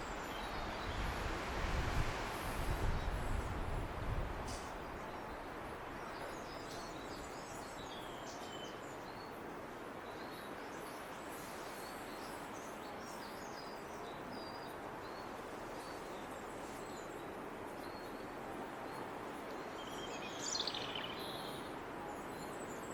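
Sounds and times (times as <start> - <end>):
faint songbird song: 0.0 - 22.9
outdoor background hiss: 0.0 - 22.9.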